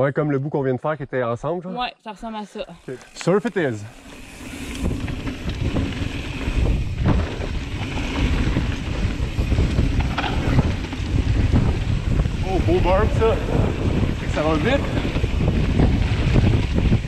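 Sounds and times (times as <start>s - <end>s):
bike tyres rumbling over dirt: 2.8s - 17.0s
wind buffeting microphone: 2.8s - 17.0s.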